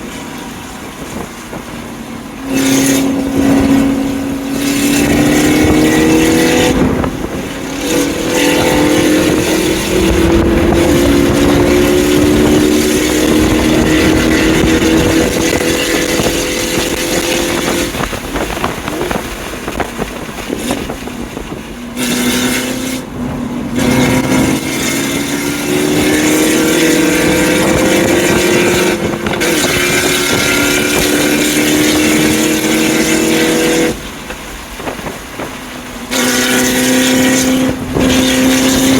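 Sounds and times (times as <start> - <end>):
car engine pulling hard: 0.0 - 38.9
wind noise: 0.0 - 38.9.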